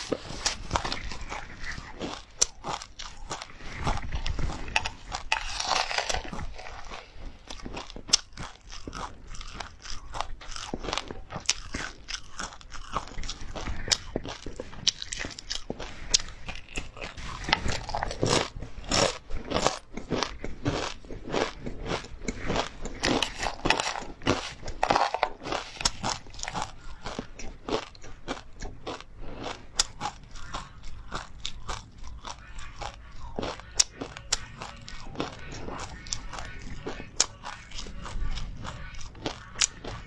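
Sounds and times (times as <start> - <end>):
mouth chewing crunchy seeds: 0.0 - 40.0.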